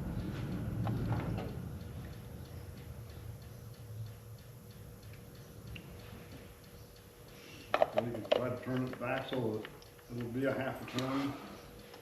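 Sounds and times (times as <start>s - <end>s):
faint steady hum: 0.0s - 12.0s
regular ticking: 0.0s - 12.0s.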